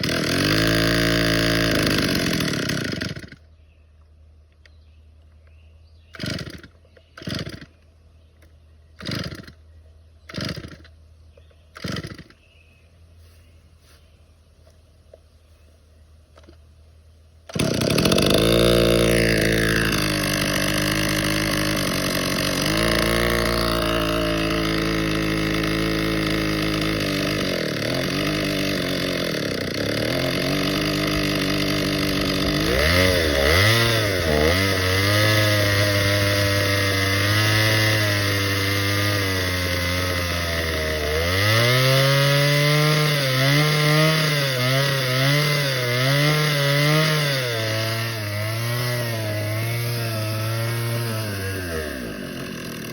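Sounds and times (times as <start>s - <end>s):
chainsaw cutting wood: 0.0s - 3.5s, 6.0s - 7.8s, 9.0s - 12.5s, 17.4s - 52.9s.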